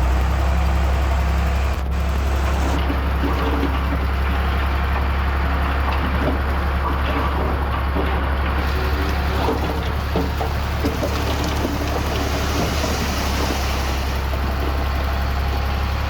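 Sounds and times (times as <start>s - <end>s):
diesel machinery droning: 0.0s - 16.0s.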